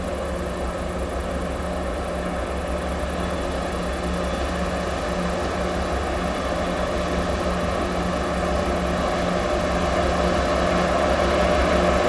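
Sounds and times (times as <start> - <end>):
distant diesel locomotive drone: 0.0 - 12.0.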